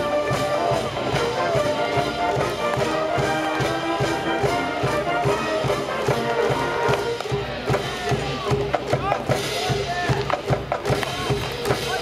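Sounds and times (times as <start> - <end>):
brass band playing a march: 0.0 - 12.0
drums keeping a steady beat: 0.0 - 12.0.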